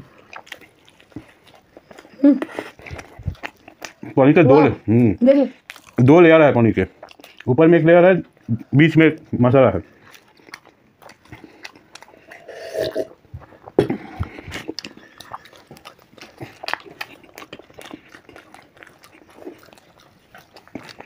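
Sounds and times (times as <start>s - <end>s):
chewing and lip-smacking: 0.0s - 4.2s, 5.0s - 6.1s, 6.8s - 7.6s, 8.2s - 21.0s.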